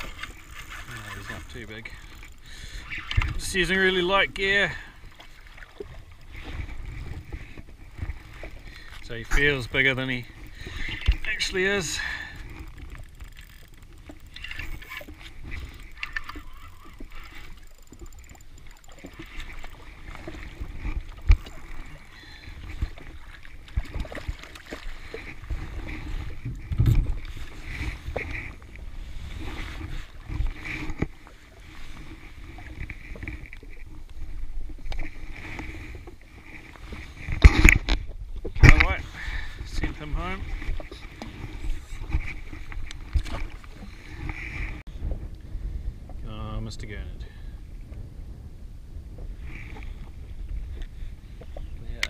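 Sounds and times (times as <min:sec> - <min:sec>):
small waves lapping against hull: 0:00.0 - 0:52.0
wind buffeting microphone: 0:05.8 - 0:52.0.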